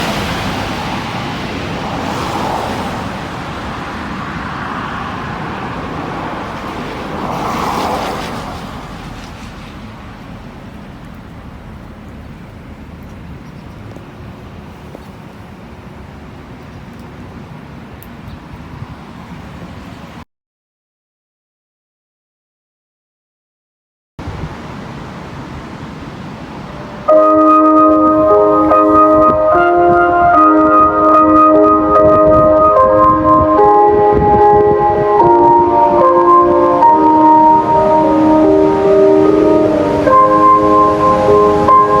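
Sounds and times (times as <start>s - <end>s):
vehicle passing: 0.0s - 16.3s, 24.6s - 42.0s
traffic hum: 0.0s - 20.2s, 24.2s - 42.0s.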